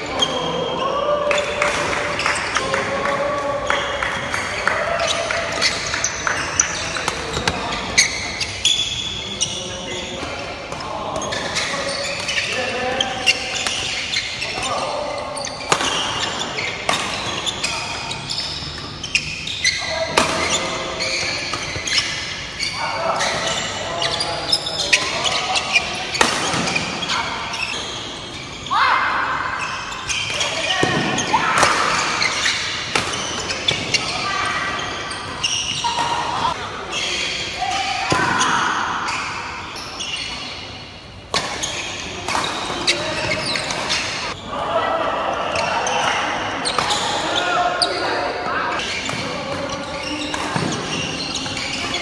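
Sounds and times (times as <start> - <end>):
shoes squeaking on floor: 5.0 - 28.9, 29.6 - 44.5, 45.4 - 52.0.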